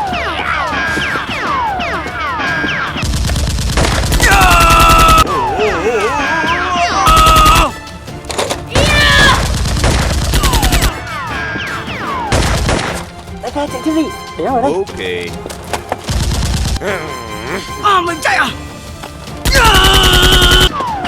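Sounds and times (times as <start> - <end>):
action background music: 0.0 - 21.0.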